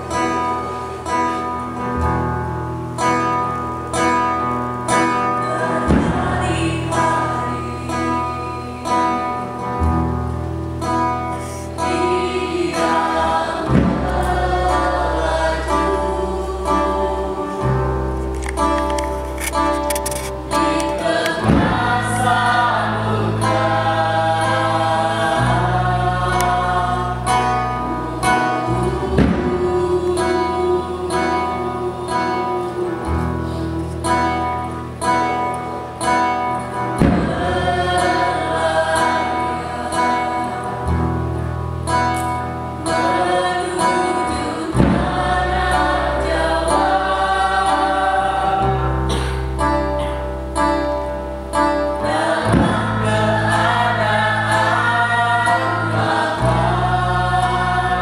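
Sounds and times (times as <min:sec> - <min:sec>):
instrumental accompaniment: 0:00.0 - 0:58.0
low held bass notes: 0:00.0 - 0:58.0
choir singing: 0:03.2 - 0:10.2, 0:11.2 - 0:50.1, 0:50.8 - 0:58.0.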